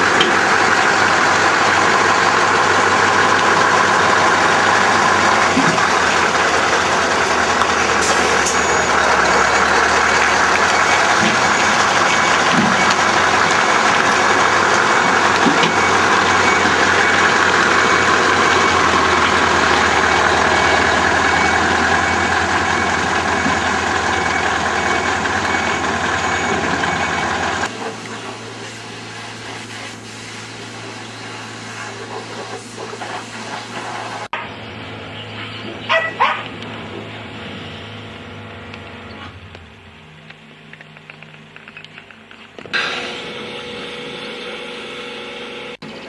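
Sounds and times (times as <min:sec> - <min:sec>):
diesel lorry engine idling: 0:00.0 - 0:41.2.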